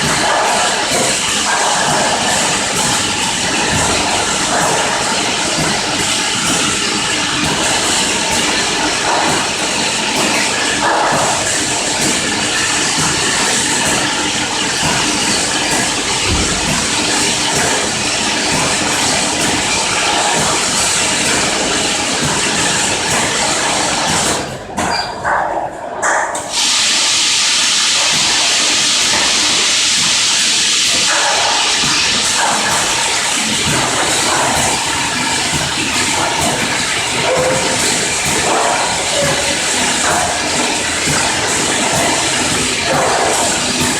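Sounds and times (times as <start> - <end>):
machine hissing: 0.0 - 24.4, 26.5 - 43.9.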